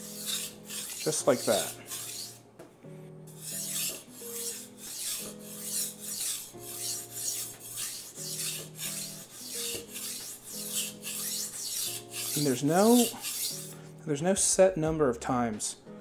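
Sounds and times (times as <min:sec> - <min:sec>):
knife scraping on whetstone: 0:00.0 - 0:02.4, 0:03.3 - 0:13.8.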